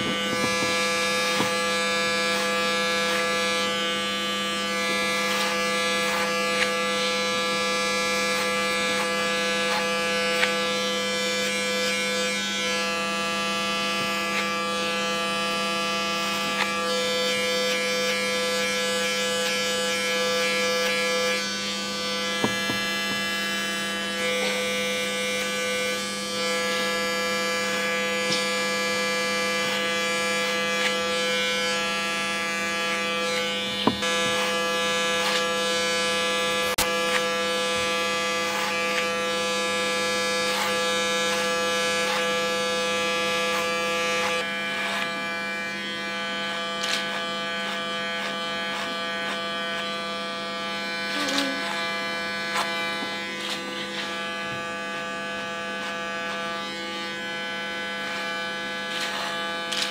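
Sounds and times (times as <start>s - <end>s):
electric hair clipper buzzing: 0.0s - 59.9s.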